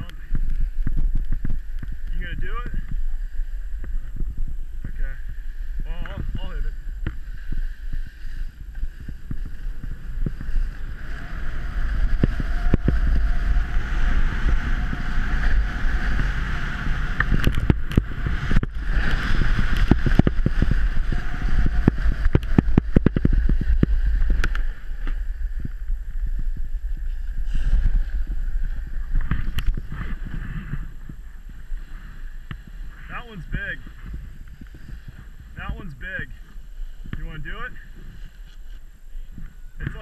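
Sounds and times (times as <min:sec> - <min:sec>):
wind buffeting microphone: 0:00.0 - 0:40.0
skis scraping over packed snow: 0:00.2 - 0:40.0.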